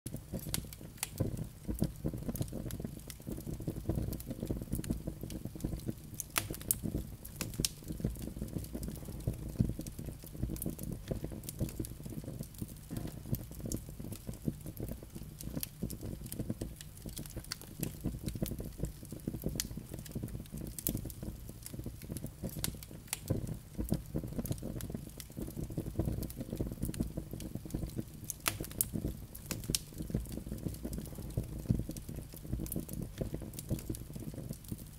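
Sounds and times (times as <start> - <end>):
logs crackling and popping: 0.1 - 34.9.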